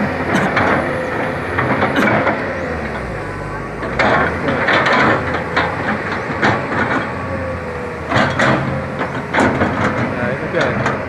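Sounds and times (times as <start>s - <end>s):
excavator diesel engine running: 0.0s - 11.0s
loud metallic clanks: 0.0s - 11.0s.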